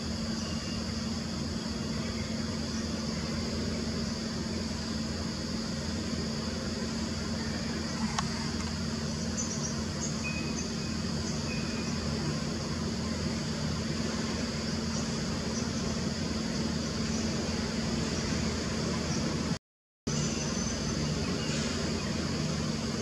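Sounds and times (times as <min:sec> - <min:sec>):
faint chirps: 0:00.0 - 0:19.5, 0:20.1 - 0:23.0
insect drone: 0:00.0 - 0:23.0
low hum under hiss: 0:00.0 - 0:23.0.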